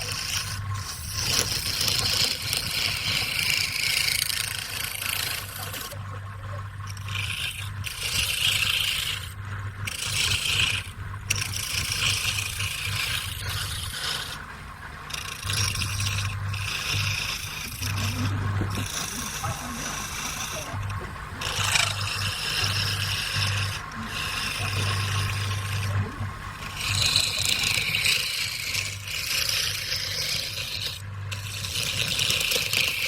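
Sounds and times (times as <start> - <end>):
tool scraping spinning wood: 0.0 - 33.0
wood lathe humming: 0.0 - 33.0.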